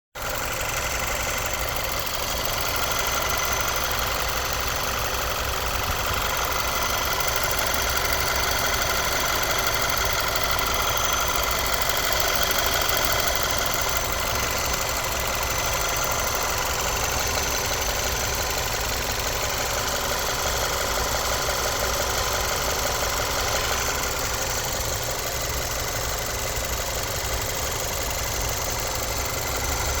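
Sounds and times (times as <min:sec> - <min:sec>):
car engine idling: 0:00.1 - 0:30.0.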